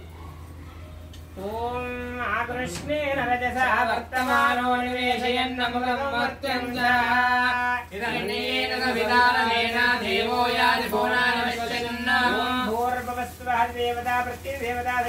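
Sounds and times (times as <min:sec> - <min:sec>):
voices chanting a mantra: 0:01.4 - 0:15.0.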